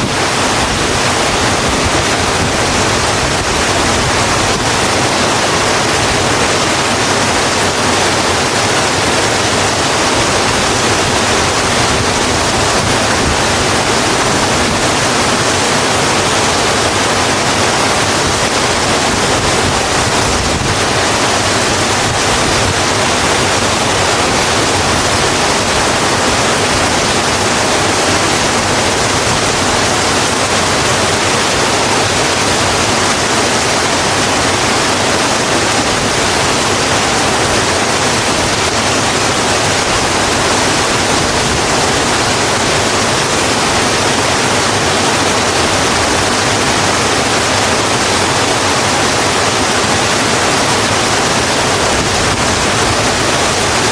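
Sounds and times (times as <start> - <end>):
heavy rain hiss: 0.0 - 53.9.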